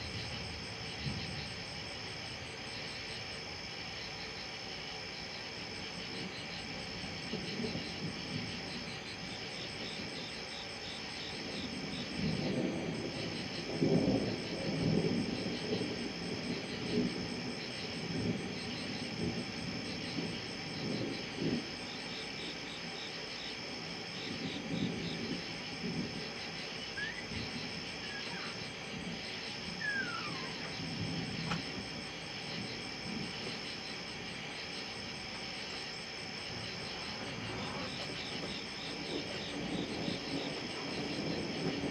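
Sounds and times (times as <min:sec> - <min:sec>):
thunder rumbling: 0:00.0 - 0:03.2, 0:05.5 - 0:41.9
night insects chorus: 0:00.0 - 0:41.9.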